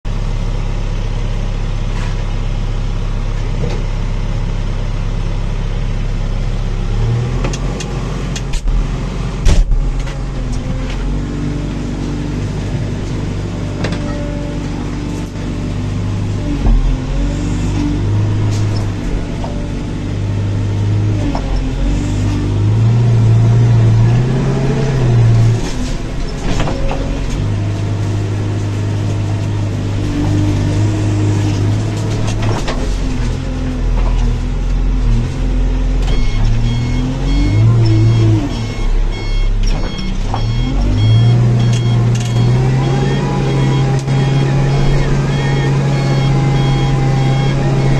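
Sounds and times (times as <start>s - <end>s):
diesel engine droning under load: 0.1s - 47.9s.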